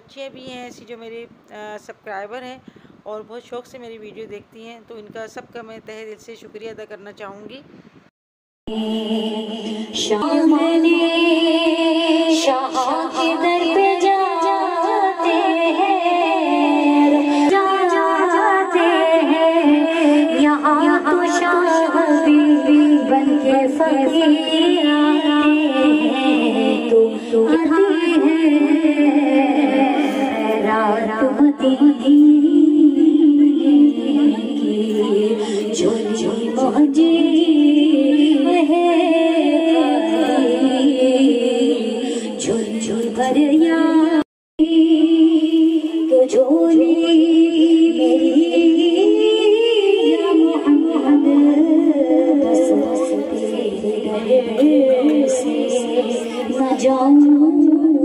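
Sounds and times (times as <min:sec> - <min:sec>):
women singing devotional song: 0:08.7 - 0:58.0.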